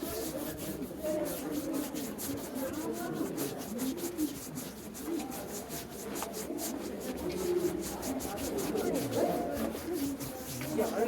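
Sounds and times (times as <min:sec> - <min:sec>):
crowd chatter: 0:00.0 - 0:11.0
soft rustling: 0:00.0 - 0:11.0.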